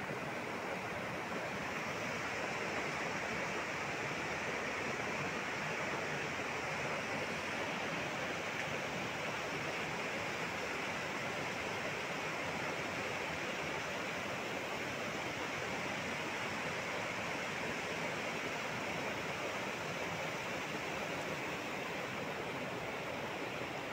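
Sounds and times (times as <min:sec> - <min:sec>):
floodwater rushing: 0:00.0 - 0:23.9.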